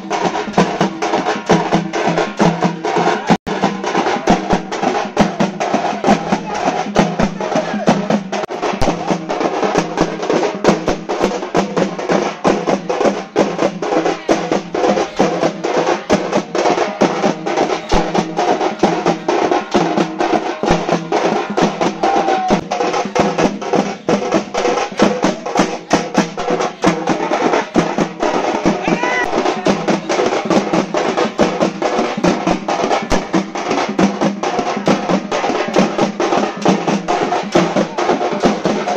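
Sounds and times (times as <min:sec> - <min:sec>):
frame drums beaten with sticks: 0:00.0 - 0:38.9.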